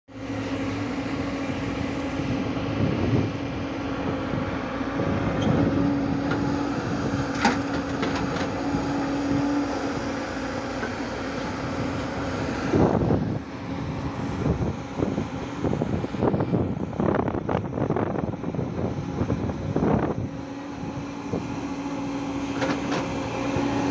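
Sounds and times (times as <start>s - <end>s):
diesel engines droning: 0.1s - 23.9s.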